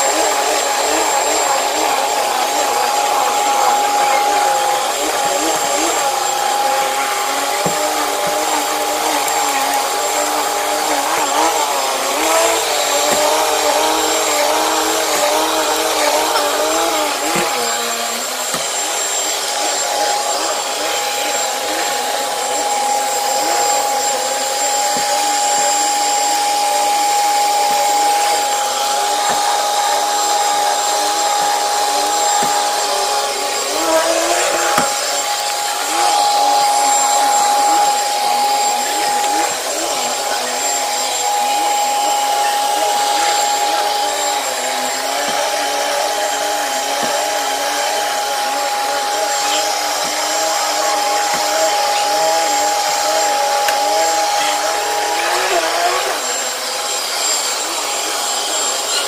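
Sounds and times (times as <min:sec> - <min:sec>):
vacuum cleaner on carpet: 0:00.0 - 0:59.0.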